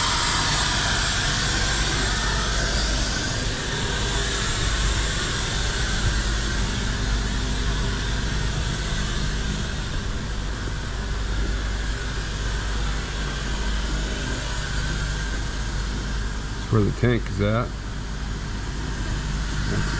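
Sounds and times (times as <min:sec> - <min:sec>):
rushing hiss of air: 0:00.0 - 0:16.8
air compressor hum: 0:00.0 - 0:19.9.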